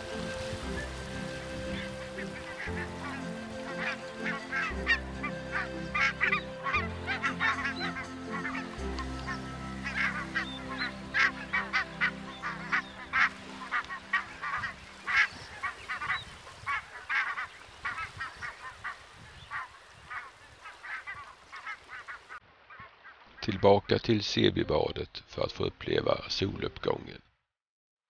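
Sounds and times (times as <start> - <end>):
geese calling: 0.0 - 23.2.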